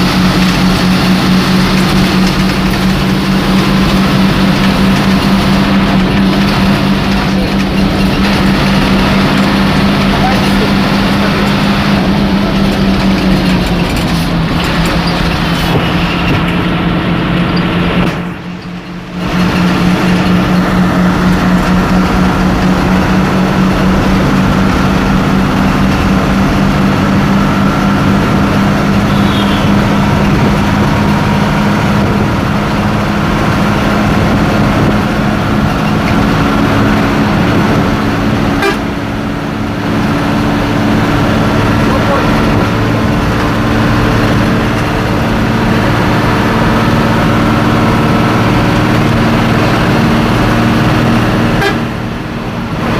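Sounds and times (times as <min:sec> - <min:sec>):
bus engine droning: 0:00.0 - 0:52.9.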